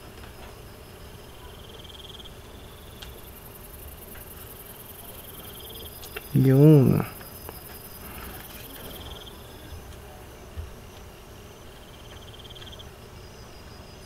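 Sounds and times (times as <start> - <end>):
low steady hiss: 0.0 - 14.0
insects chirping: 0.1 - 14.0.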